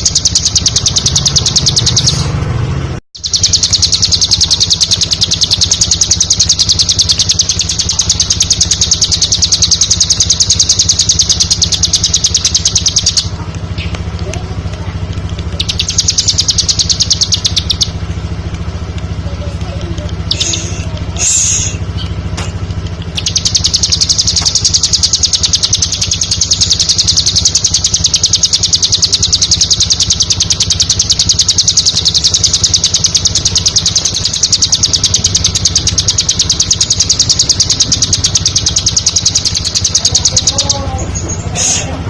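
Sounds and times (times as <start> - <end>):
bird chirping rapidly: 0.0 - 2.4, 3.2 - 14.0, 15.2 - 18.9, 20.1 - 41.9
low steady hum: 0.0 - 42.0.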